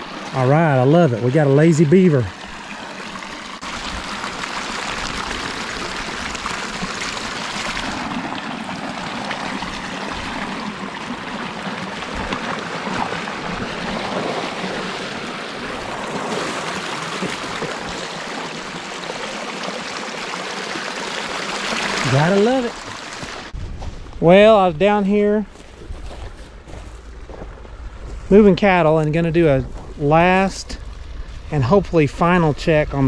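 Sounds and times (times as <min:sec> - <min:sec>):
creek water rushing and splashing: 0:00.0 - 0:23.6, 0:26.8 - 0:33.0.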